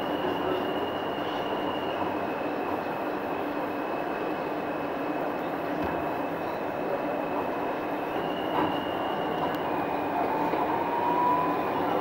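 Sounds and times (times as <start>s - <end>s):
subway train rumbling on track: 0.0s - 12.0s.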